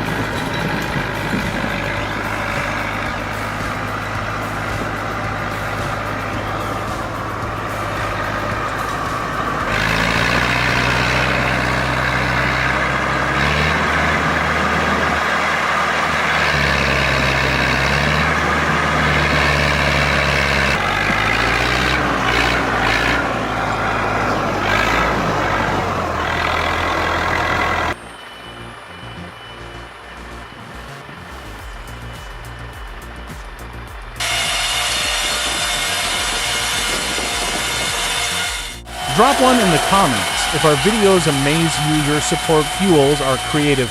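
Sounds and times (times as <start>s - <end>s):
heavy vehicle engine running hard: 0.0s - 43.9s.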